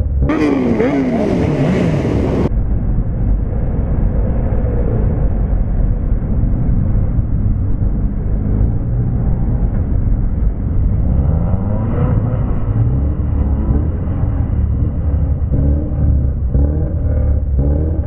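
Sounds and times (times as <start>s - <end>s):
motorcycle engine rumble: 0.0s - 18.0s
wind noise on microphone: 0.9s - 15.5s.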